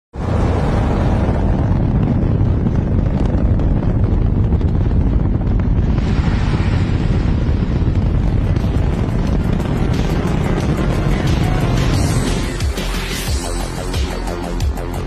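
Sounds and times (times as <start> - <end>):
rocket engine rumble: 0.1 - 15.0.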